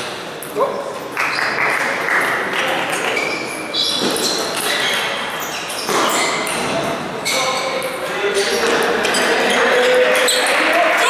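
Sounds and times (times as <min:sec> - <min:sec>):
voices talking: 0:00.6 - 0:11.0.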